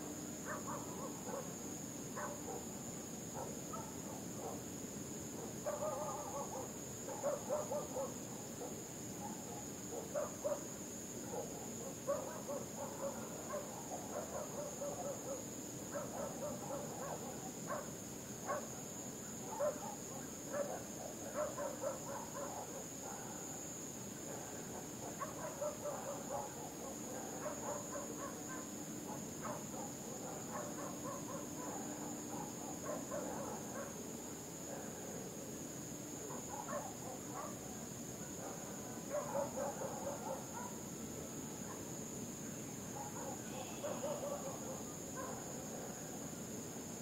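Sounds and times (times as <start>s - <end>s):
high-pitched insect hum: 0.0s - 47.0s.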